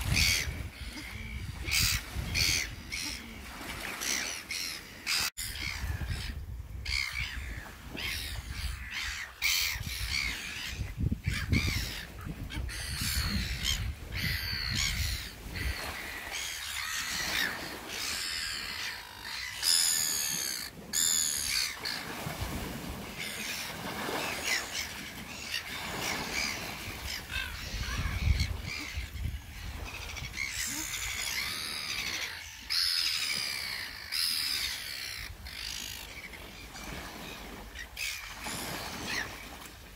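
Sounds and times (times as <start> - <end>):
gulls squabbling: 0.0 - 39.7.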